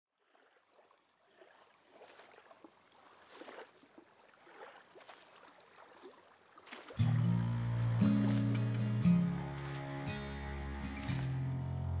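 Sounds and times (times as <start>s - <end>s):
small waves lapping on shore: 0.1s - 12.0s.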